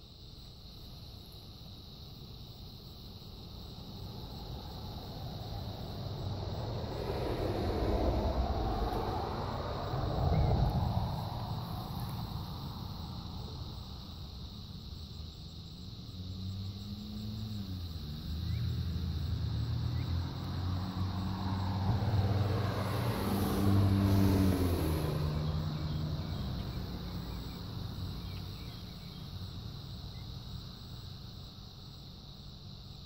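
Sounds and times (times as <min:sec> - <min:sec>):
vehicle passing by: 0:03.7 - 0:31.4.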